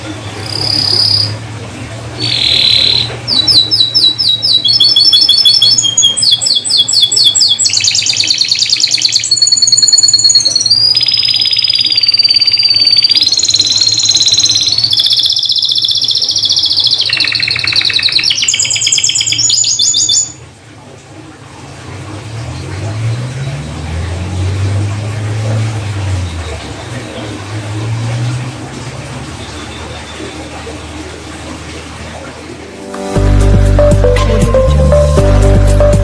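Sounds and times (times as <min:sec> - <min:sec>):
canary singing: 0:00.0 - 0:20.5, 0:22.3 - 0:36.0.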